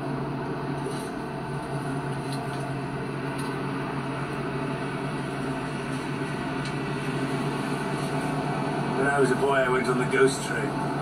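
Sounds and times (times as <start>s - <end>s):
coach interior road drone: 0.0s - 11.0s.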